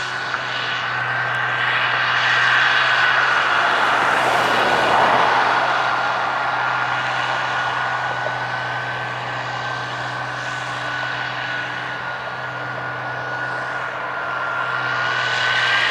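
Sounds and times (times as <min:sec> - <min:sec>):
combine harvester diesel drone: 0:00.0 - 0:15.9
high whine: 0:00.0 - 0:15.9.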